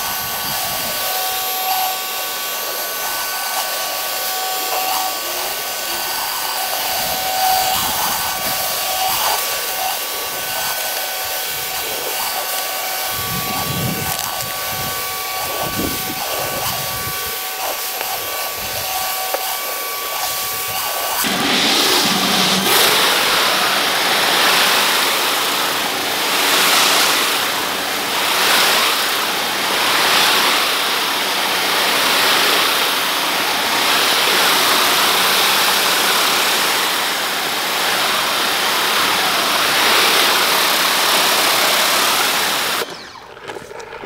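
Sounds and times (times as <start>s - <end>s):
pressure washer spraying concrete: 0.0s - 43.2s.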